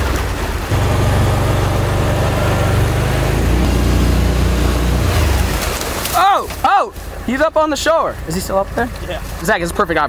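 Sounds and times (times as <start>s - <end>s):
small boat engine humming: 0.0s - 10.0s.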